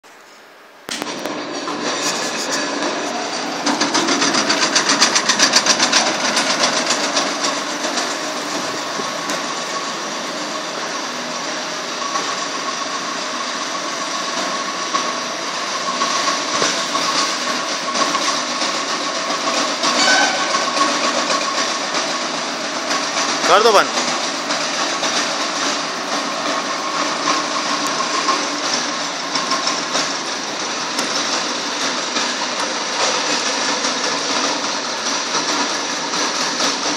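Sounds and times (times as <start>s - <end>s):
hammer mill running: 0.6s - 36.9s
wood chipper fast knocking: 0.9s - 36.9s
wood chipper motor whirring: 0.9s - 36.9s.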